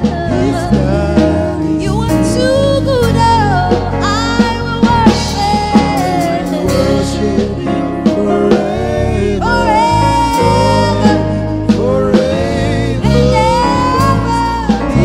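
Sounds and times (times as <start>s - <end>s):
woman singing into microphone: 0.0s - 7.4s, 8.2s - 15.0s
band accompaniment: 0.0s - 15.0s
steady drum beat: 0.0s - 15.0s.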